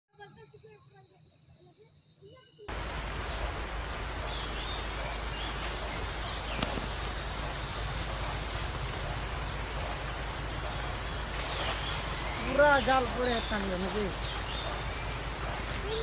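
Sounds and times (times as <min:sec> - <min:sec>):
birds chirping: 0:00.2 - 0:16.0
steady outdoor hiss: 0:00.2 - 0:16.0.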